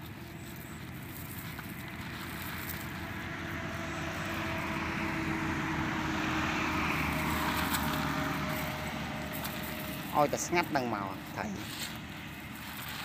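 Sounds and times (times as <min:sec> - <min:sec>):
distant motor engine droning: 0:00.0 - 0:13.0.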